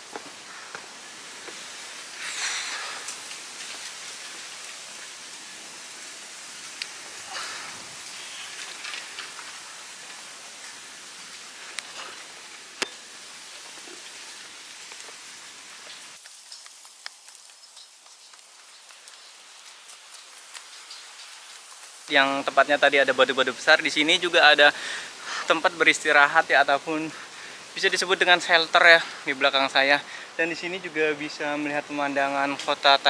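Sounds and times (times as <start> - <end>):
rain on foliage: 0.0 - 33.0.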